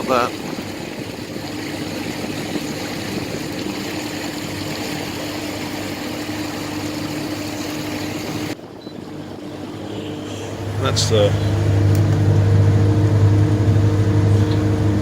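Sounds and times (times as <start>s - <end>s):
outboard engines humming: 0.0s - 15.0s
broad rushing noise: 1.7s - 15.0s.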